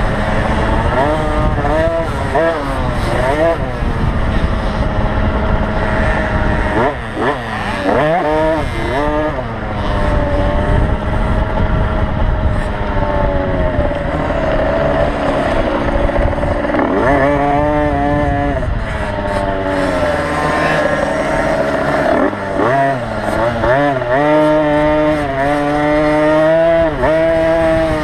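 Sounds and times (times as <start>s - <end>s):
motocross bike engines racing: 0.0s - 28.0s.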